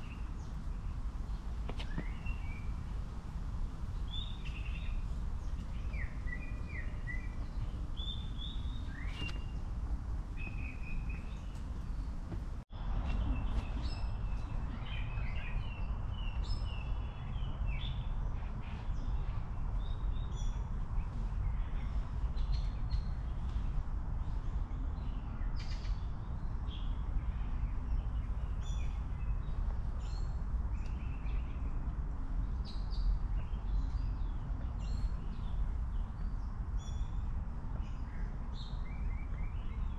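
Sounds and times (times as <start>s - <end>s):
songbirds chirping: 0.0s - 39.9s
steady low outdoor rumble: 0.0s - 39.9s.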